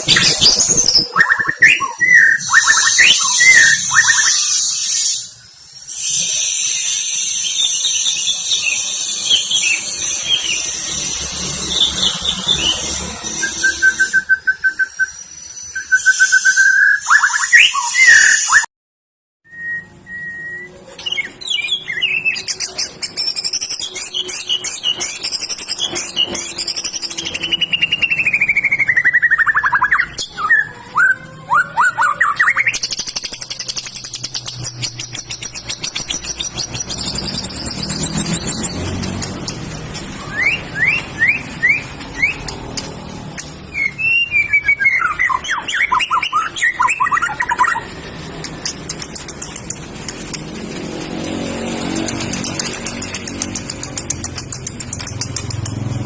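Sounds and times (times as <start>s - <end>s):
bird singing trills and whistles: 0.0s - 18.7s, 19.5s - 50.5s, 51.1s - 56.0s.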